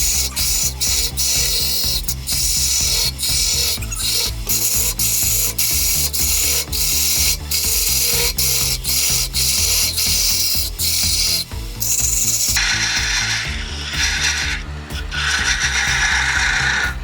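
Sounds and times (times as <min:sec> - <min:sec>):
lathe tool scraping spinning wood: 0:00.0 - 0:17.0.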